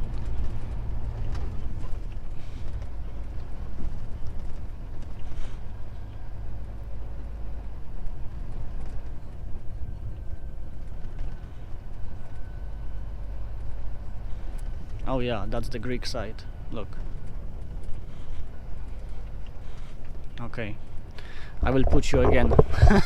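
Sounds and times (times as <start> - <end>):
diesel engine drone: 0.0 - 23.0
road and tyre noise: 0.0 - 23.0.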